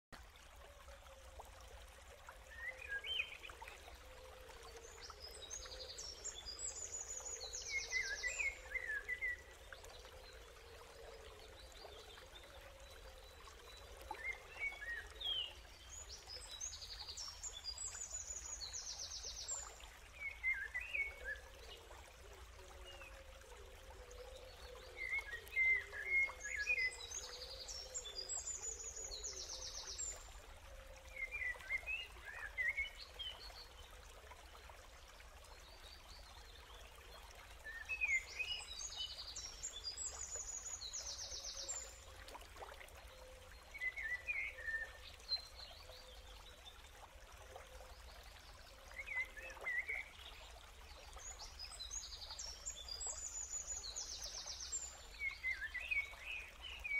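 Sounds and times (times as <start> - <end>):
running water: 0.1 - 56.9.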